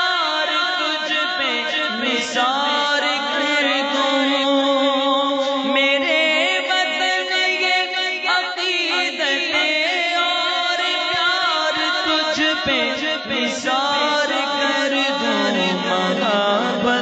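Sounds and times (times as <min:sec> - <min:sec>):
man singing wordless melody: 0:00.0 - 0:17.0.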